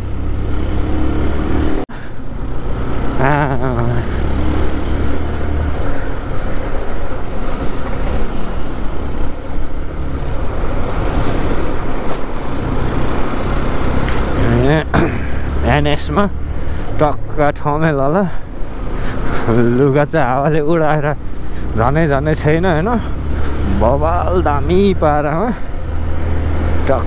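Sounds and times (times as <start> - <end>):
passing traffic: 0.0 - 27.0.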